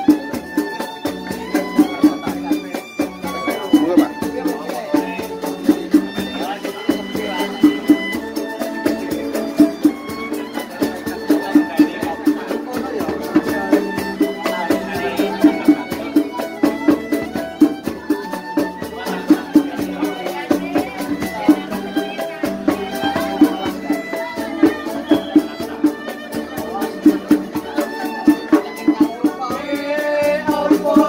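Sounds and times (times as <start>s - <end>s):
drum steady beat: 0.0s - 31.0s.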